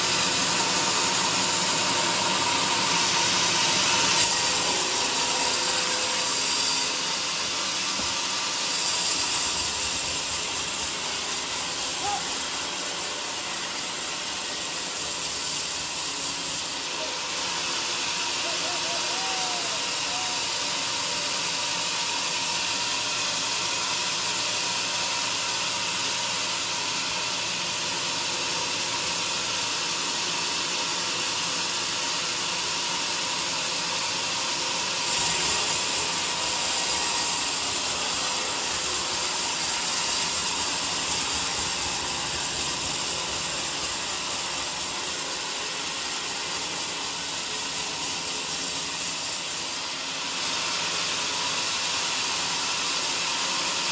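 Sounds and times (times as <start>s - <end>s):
band saw cutting log: 0.0s - 53.9s
sawmill machine running: 0.0s - 53.9s.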